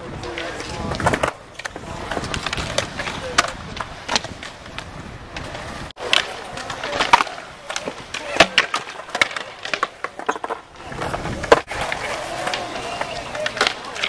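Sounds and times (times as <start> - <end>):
skateboard clacks on ground: 0.0 - 14.0
skateboard wheels rolling on concrete: 0.0 - 14.0.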